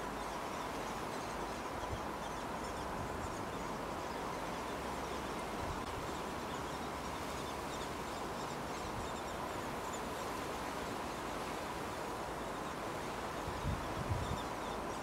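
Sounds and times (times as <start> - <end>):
faint steady tone: 0.0 - 15.0
outdoor background hiss: 0.0 - 15.0.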